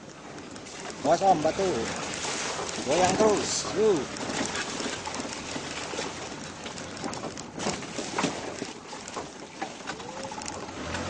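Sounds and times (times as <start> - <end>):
off-road vehicle rumbling: 0.0 - 11.0
vehicle knocks and rattles: 0.0 - 11.0.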